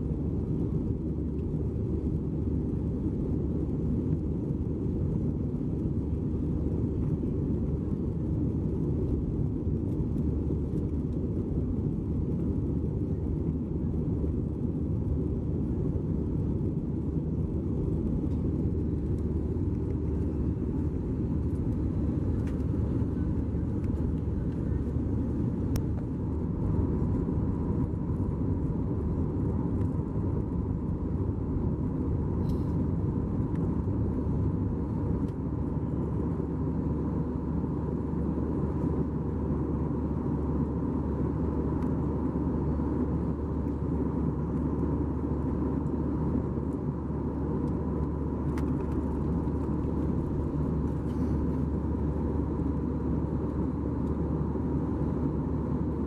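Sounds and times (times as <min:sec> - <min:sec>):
airplane cabin rumble: 0:00.0 - 0:56.0
faint high hum: 0:00.0 - 0:56.0.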